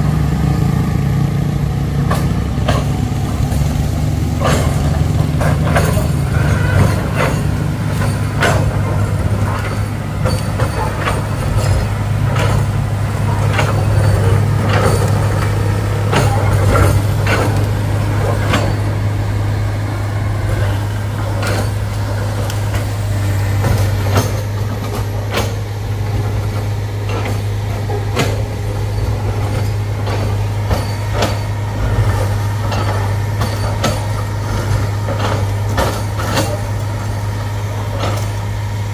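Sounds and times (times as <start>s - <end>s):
heavy diesel engine droning: 0.0s - 38.9s
sharp knocks and clanks: 2.0s - 38.4s.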